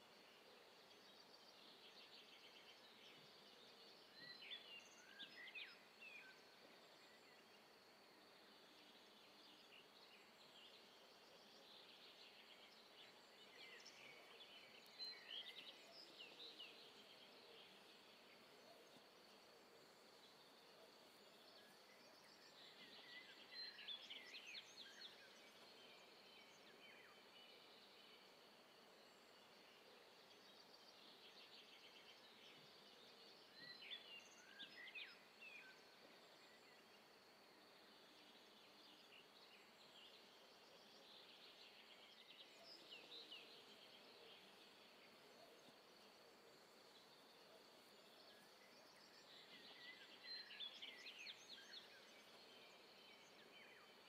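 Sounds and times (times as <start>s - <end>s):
quiet steady hiss: 0.0s - 54.0s
small birds chirping: 0.0s - 54.0s.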